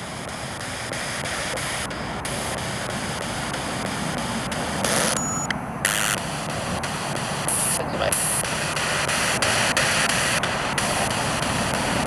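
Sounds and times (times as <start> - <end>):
chopped radio static: 0.0 - 12.0
static bursts: 0.0 - 12.0.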